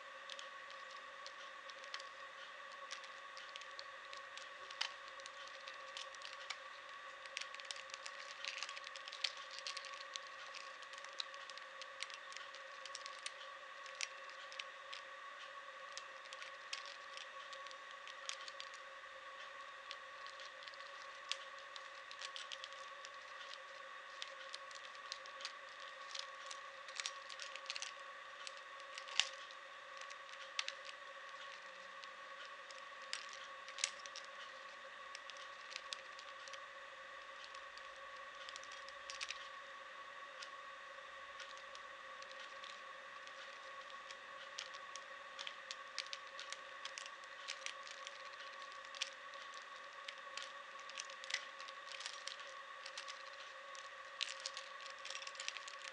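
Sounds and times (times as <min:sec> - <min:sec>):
faint high hum: 0:00.0 - 0:55.9
rubik's cube clicking: 0:00.3 - 0:06.6, 0:07.2 - 0:15.0, 0:15.9 - 0:18.8, 0:19.9 - 0:32.1, 0:32.7 - 0:36.6, 0:37.4 - 0:39.5, 0:41.4 - 0:55.9.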